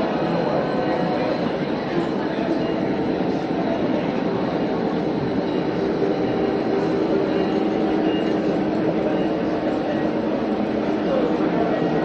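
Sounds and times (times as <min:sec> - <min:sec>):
model locomotive motors humming: 0:00.0 - 0:12.0
model train wheels on metal track: 0:00.0 - 0:12.0.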